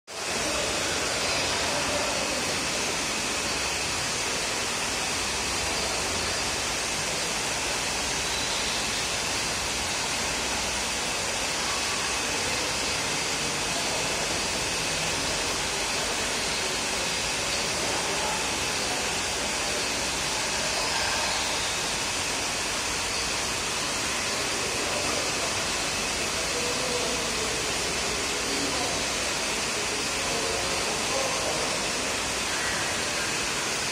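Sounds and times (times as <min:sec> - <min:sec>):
faint high steady tone: 0:05.2 - 0:33.9.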